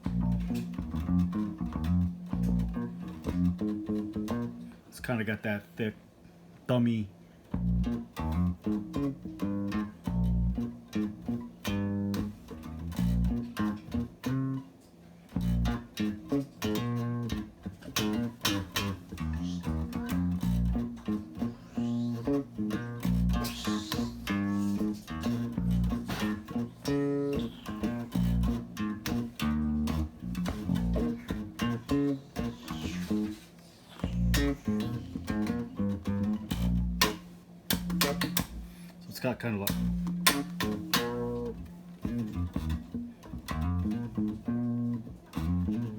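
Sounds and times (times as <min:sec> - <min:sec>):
plucked guitar notes: 0:00.0 - 0:04.7, 0:07.5 - 0:14.7, 0:15.3 - 0:45.9.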